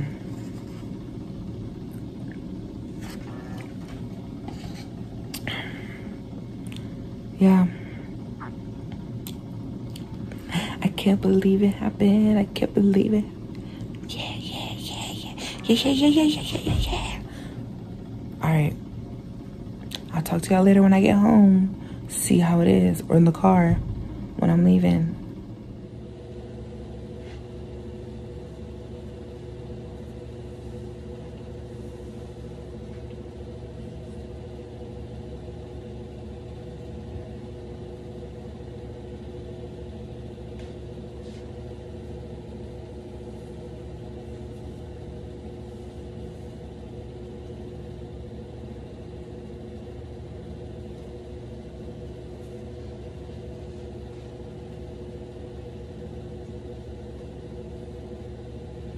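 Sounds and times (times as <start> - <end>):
low mechanical hum: 0.0 - 58.9
rumble: 0.0 - 58.9.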